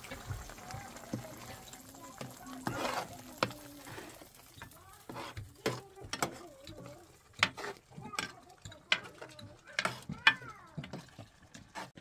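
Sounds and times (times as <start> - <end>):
metal ladle scraping a pot: 1.6 - 12.0.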